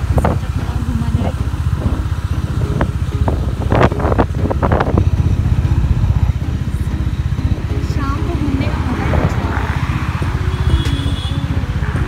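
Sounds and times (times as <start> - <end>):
scooter engine running: 0.0 - 12.0
wind buffeting microphone: 0.0 - 12.0.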